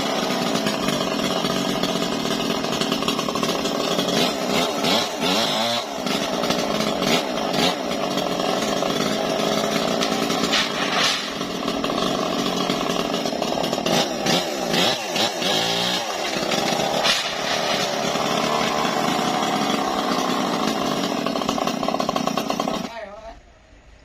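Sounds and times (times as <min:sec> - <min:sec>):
sawmill engine cutting log: 0:00.0 - 0:23.0.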